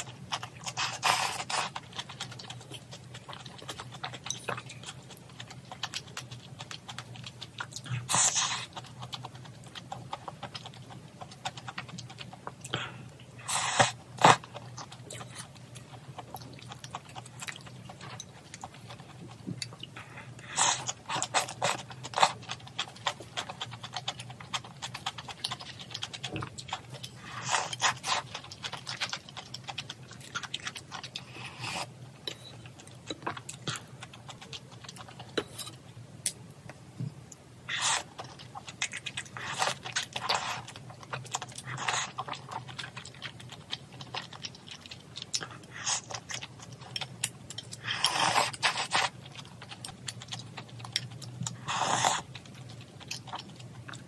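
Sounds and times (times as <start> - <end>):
wet chewing: 0.0 - 35.7, 37.3 - 54.0.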